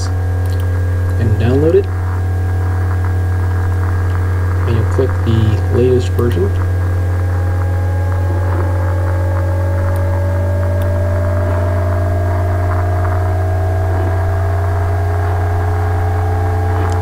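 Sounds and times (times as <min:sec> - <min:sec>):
high tones rising in pitch: 0:00.0 - 0:17.0
low electrical hum: 0:00.0 - 0:17.0.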